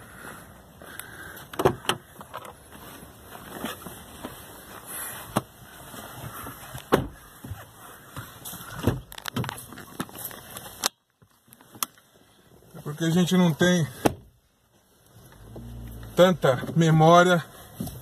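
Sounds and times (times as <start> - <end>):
car road noise on stone paving: 0.0 - 18.0.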